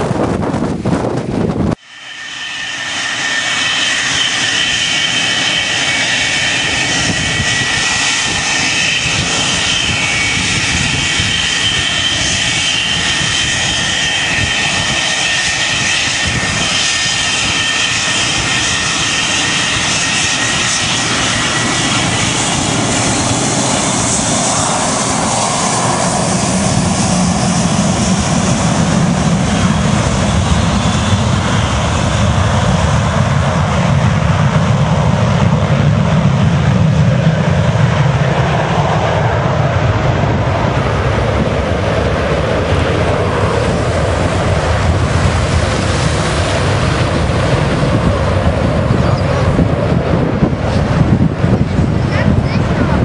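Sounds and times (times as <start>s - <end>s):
jet engine deep roar: 0.0s - 53.0s
jet engine high whine: 0.0s - 53.0s.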